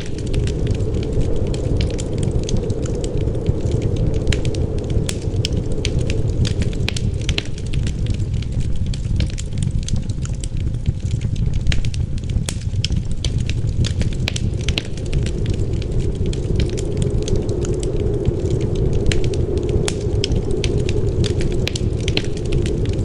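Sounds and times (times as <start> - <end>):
low rumble of wind: 0.0 - 23.0
wood fire crackling and popping: 0.0 - 23.0.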